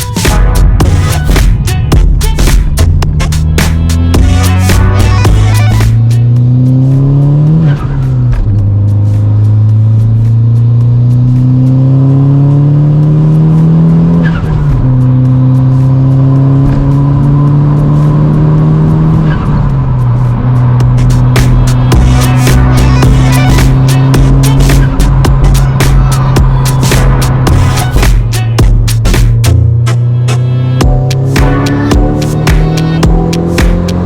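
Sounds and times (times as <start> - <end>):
car engine accelerating through gears: 0.8 - 34.0.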